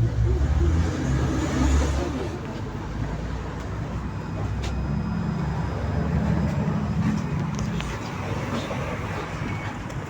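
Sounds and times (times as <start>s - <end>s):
tram hum and rumble: 0.0s - 10.0s.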